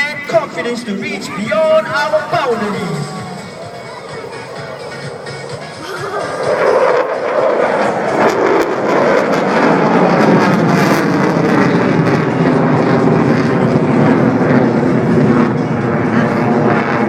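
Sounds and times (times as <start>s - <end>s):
fighter jet roar: 0.0s - 17.0s.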